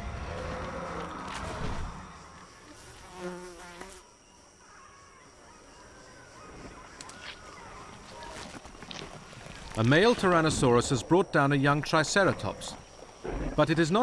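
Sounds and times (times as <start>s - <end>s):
forest ambience: 0.0s - 14.0s
insect buzzing: 0.0s - 14.0s.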